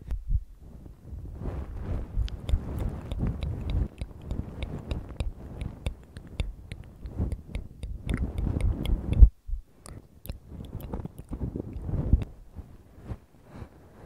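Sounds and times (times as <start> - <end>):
ear pick rustling on microphone: 0.0 - 14.0.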